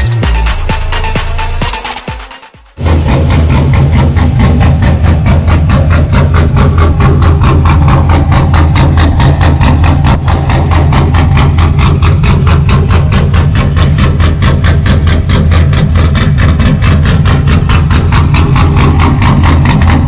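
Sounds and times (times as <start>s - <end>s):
truck engine idling: 2.8s - 20.0s.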